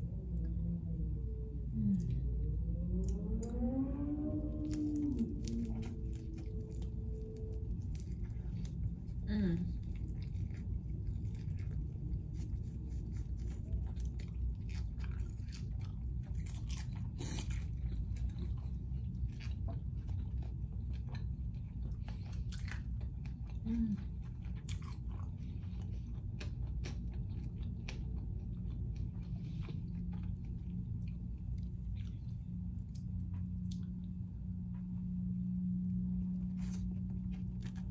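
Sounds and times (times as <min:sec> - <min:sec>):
steady low hum: 0:00.0 - 0:37.9
person chewing chicken wings: 0:04.6 - 0:33.9, 0:36.5 - 0:37.9.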